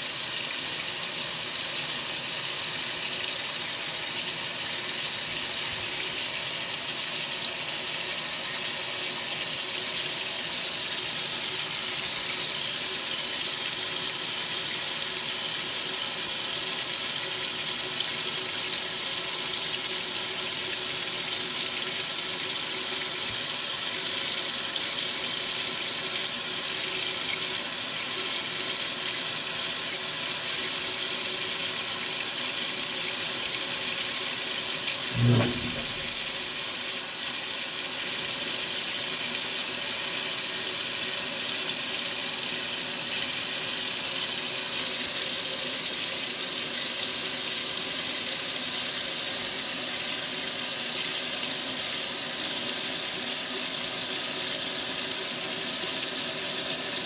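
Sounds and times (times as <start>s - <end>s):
water running into washing machine: 0.0s - 57.0s.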